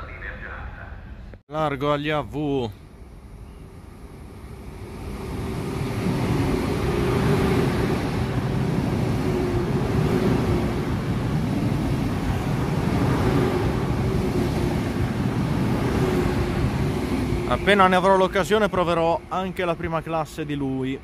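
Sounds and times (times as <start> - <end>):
electric train rushing past: 2.8 - 21.0.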